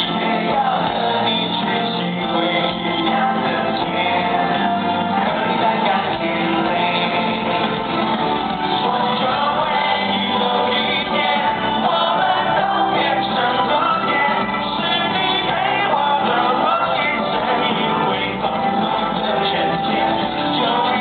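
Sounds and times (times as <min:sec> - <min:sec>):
live rock band music: 0:00.0 - 0:21.0
many voices singing together: 0:00.0 - 0:21.0.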